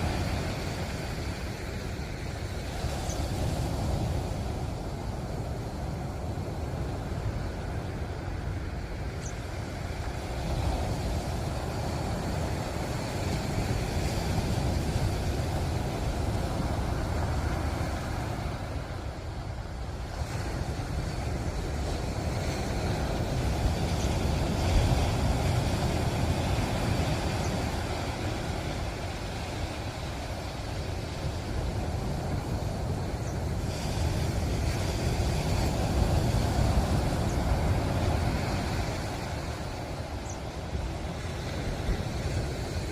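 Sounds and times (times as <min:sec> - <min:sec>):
ocean surf rushing: 0:00.0 - 0:42.9.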